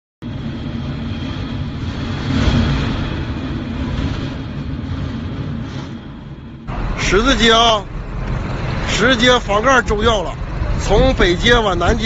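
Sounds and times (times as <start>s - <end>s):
strong wind buffeting microphone: 0.2s - 12.0s.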